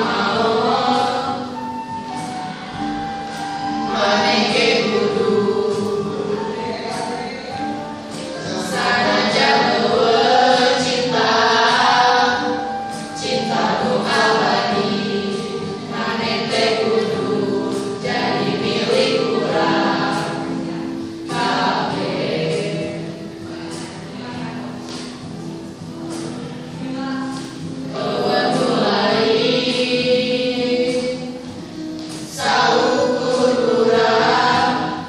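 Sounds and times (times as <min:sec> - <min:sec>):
students singing together: 0:00.0 - 0:35.0.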